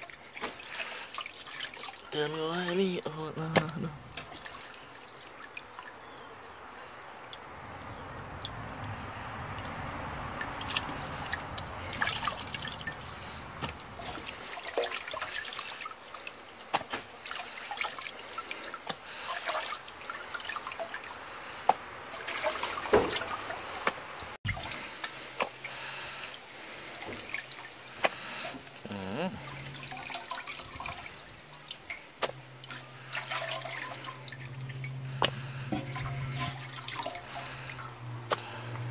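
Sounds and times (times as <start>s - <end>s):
water sloshing in a metal pot: 0.0s - 28.8s, 29.4s - 38.9s
small water splashes: 0.0s - 38.9s.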